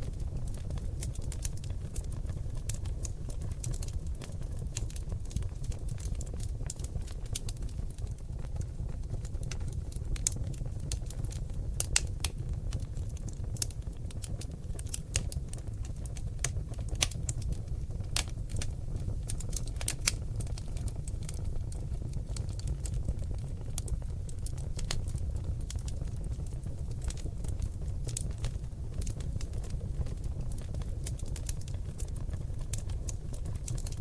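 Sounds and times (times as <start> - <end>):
logs crackling and popping: 0.0 - 34.0
low rumble of fire: 0.0 - 34.0.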